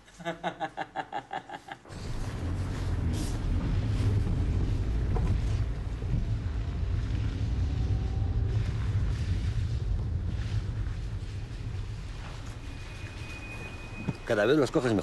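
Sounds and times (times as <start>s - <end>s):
low rumble: 1.8s - 14.5s.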